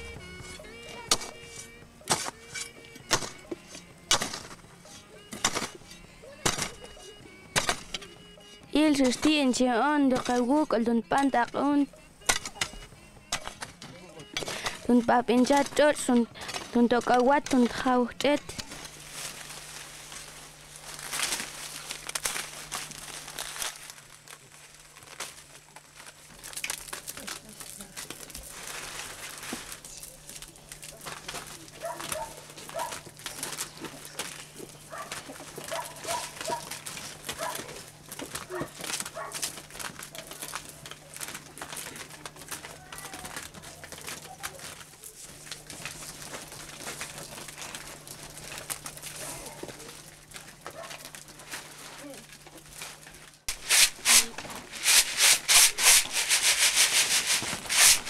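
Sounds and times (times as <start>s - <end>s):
dry corn stalks rustling: 0.0s - 58.0s
maize kernels rubbed off cobs: 0.4s - 58.0s.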